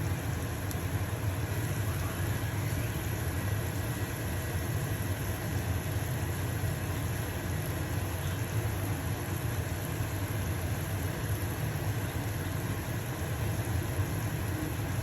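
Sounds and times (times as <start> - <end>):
pancake sizzling in pan: 0.0 - 15.0
range hood fan humming: 0.0 - 15.0.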